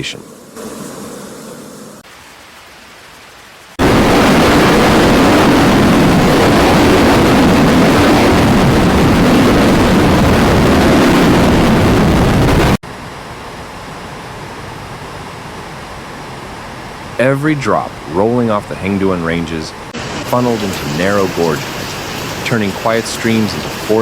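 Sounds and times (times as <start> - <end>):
floodwater rushing: 1.7 - 24.0.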